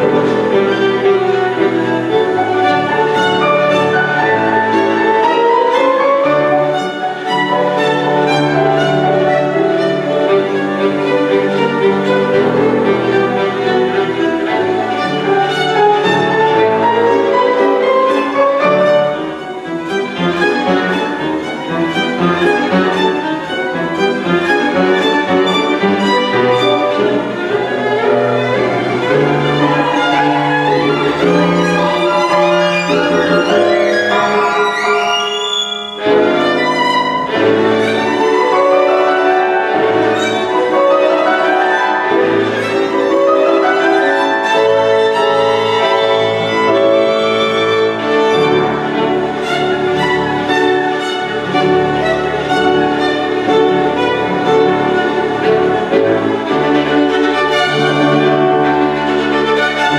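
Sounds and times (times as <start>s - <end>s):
piano accompaniment: 0.0s - 59.9s
violin playing fast runs: 0.0s - 59.9s.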